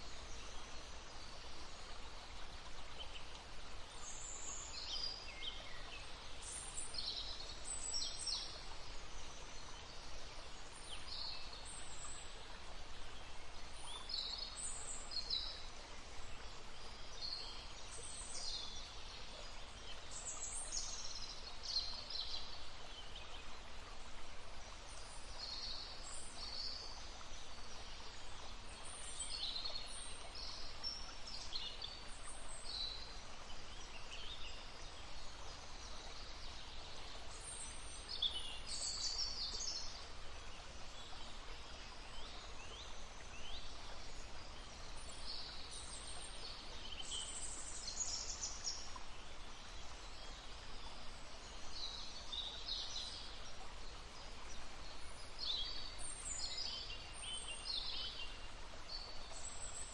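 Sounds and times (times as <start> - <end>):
babbling brook: 0.0 - 59.9
songbirds chirping: 0.0 - 59.9.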